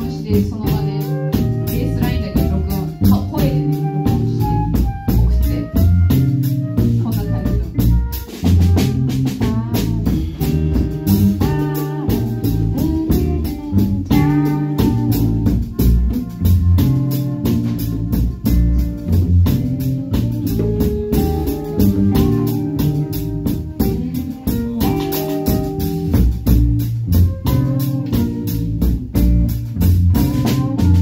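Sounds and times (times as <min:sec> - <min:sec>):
drum kit steady beat: 0:00.0 - 0:31.0
guitar: 0:00.0 - 0:31.0.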